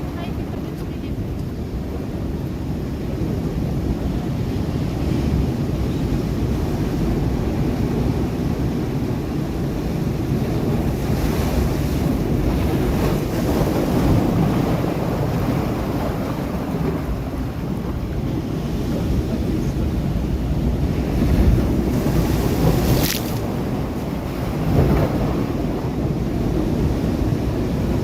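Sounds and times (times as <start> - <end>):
waves breaking on rocks: 0.0 - 28.0
wind buffeting microphone: 0.0 - 28.0.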